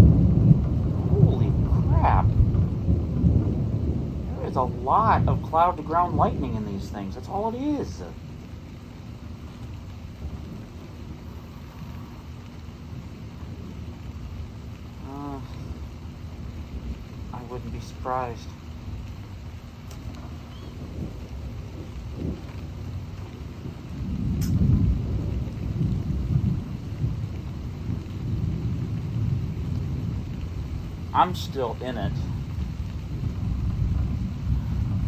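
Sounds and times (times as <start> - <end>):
rain falling: 0.0 - 35.0
rolling thunder: 0.0 - 35.0.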